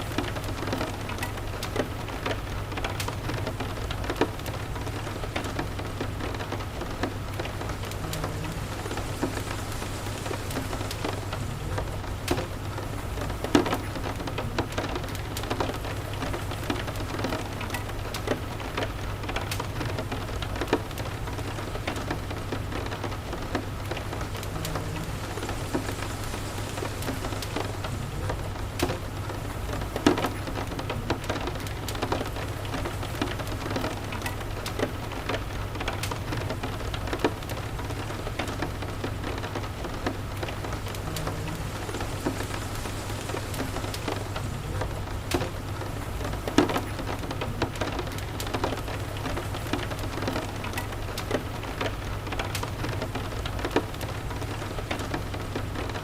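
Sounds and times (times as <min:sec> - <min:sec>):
rain pattering: 0:00.0 - 0:56.0
wood fire crackling: 0:00.0 - 0:56.0.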